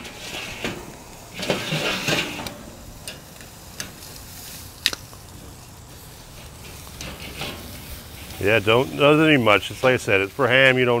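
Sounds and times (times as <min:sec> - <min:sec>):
meat sizzling on grill: 0:00.0 - 0:11.0.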